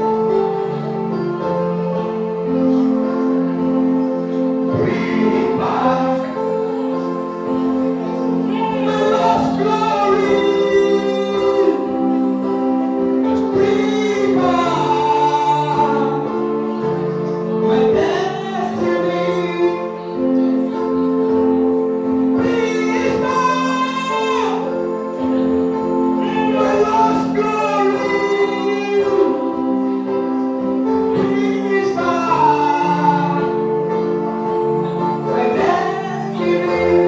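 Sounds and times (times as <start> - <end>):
choir singing gospel music: 0.0 - 37.0
held keyboard chords: 0.0 - 37.0.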